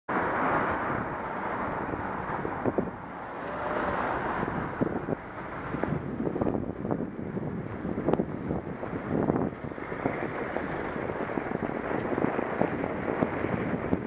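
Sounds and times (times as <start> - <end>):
wind over microphone: 0.6 - 14.0.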